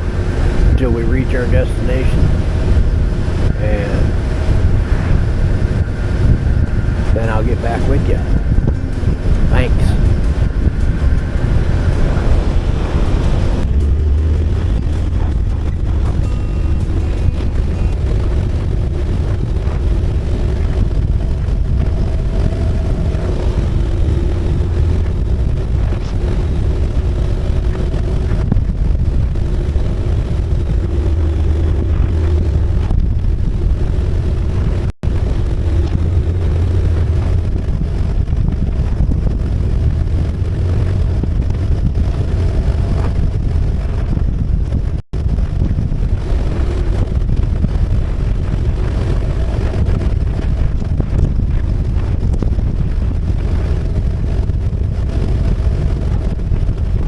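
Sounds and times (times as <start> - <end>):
motorcycle engine cruising: 0.0 - 57.0
wind buffeting microphone: 0.0 - 57.0.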